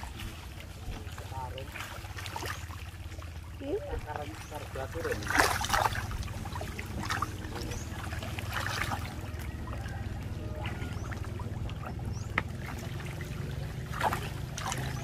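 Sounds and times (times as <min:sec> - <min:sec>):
fish and turtles splashing water: 0:00.0 - 0:15.0.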